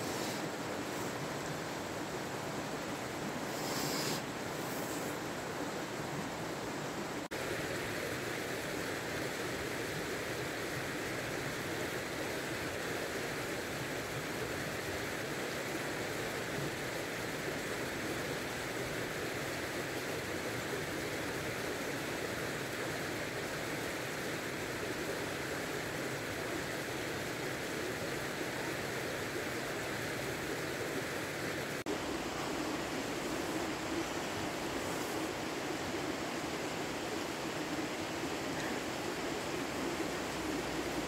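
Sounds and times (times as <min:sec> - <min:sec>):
river rushing: 0:00.0 - 0:41.0.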